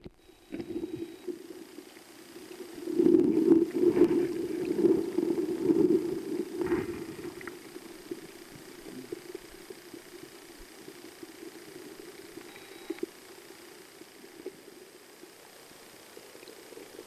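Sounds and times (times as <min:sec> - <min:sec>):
underwater river current rumble: 0:00.0 - 0:17.0.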